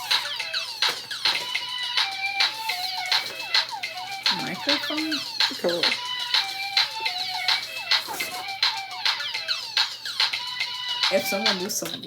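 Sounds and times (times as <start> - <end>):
electronic music beat: 0.0 - 12.0.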